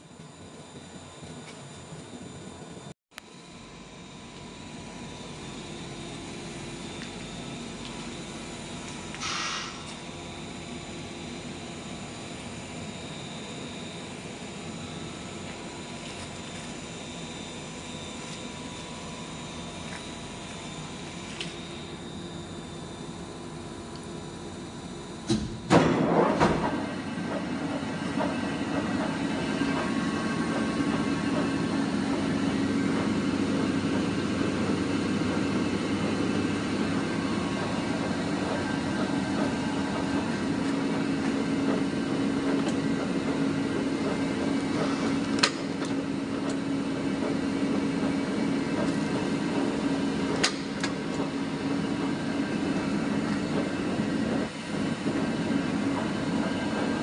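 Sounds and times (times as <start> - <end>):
lathe running with mechanical hum: 0.0 - 57.0.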